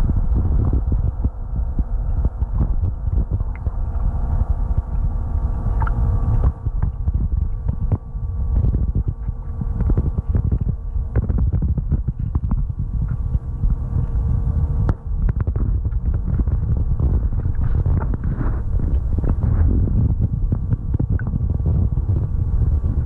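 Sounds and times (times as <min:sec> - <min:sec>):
steady hum: 0:00.0 - 0:23.0
wind buffeting microphone: 0:00.0 - 0:23.0.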